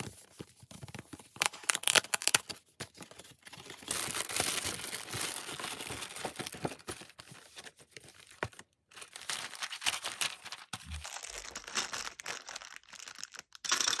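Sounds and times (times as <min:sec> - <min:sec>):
paper and cellophane crinkling: 0:00.0 - 0:13.6.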